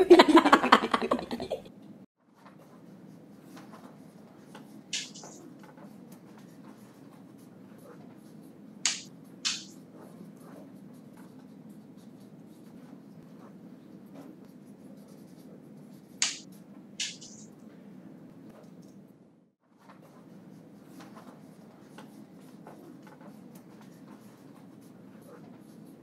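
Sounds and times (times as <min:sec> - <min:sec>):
pencil scratching writing strokes: 0:02.6 - 0:17.5, 0:20.0 - 0:26.0.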